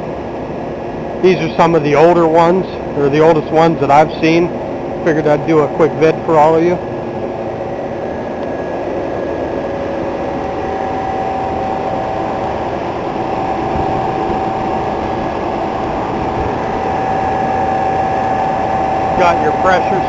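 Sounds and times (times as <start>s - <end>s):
constant whine: 0.0s - 20.0s
fan air rushing: 0.0s - 20.0s
refrigeration compressors humming: 0.0s - 20.0s.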